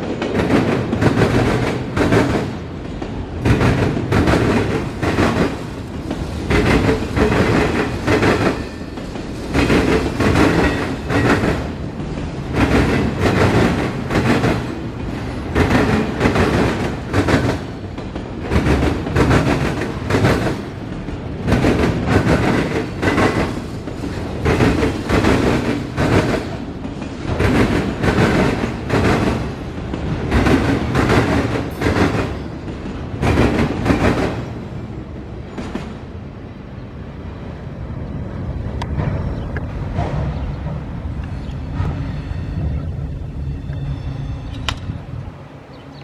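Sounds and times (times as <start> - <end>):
train wheels clicking on rail joints: 0.0 - 36.1, 38.0 - 46.0
freight train rumble: 0.0 - 46.0.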